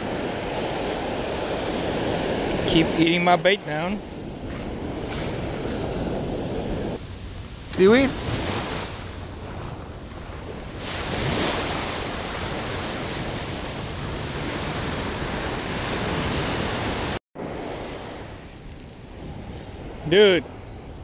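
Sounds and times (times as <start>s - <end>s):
ocean surf breaking: 0.0s - 20.8s.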